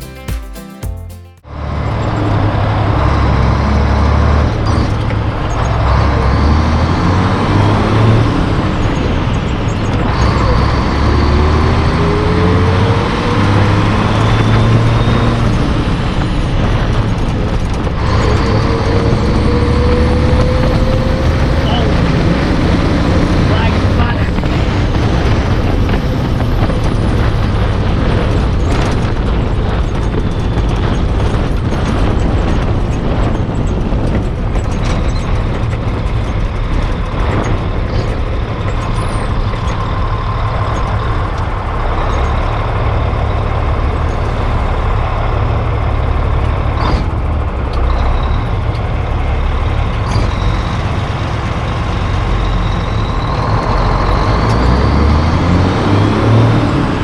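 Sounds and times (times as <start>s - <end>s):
diesel truck engine drone: 1.4s - 57.0s.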